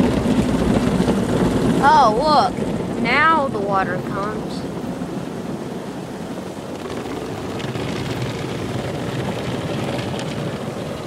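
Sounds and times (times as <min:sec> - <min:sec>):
water jets spraying car body: 0:00.0 - 0:11.0.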